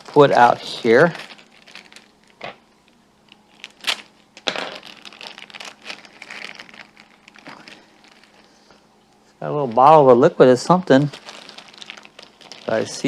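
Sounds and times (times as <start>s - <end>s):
plastic packaging rustling: 0.0s - 13.0s.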